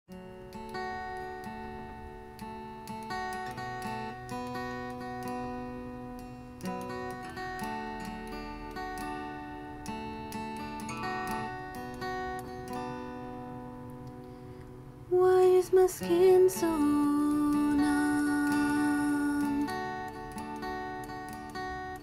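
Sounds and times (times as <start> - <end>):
acoustic guitar playing: 0.1 - 22.0.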